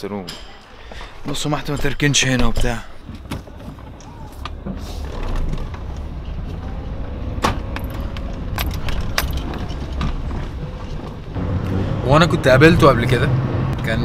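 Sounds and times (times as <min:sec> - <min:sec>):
car engine rumble: 0:00.6 - 0:14.0.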